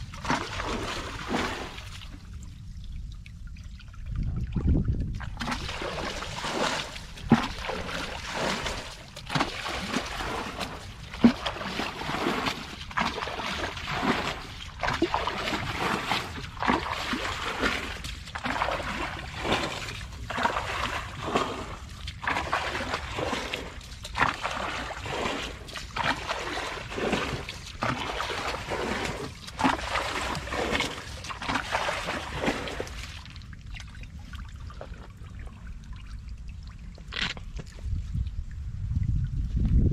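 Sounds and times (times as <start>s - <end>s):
bucket scooping and splashing water: 0.0s - 39.7s.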